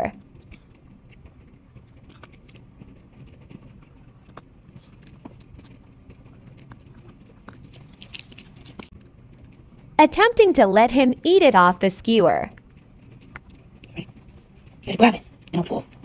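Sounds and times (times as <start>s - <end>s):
low steady hum: 0.0s - 16.0s
dog chewing: 0.2s - 10.0s, 12.5s - 16.0s.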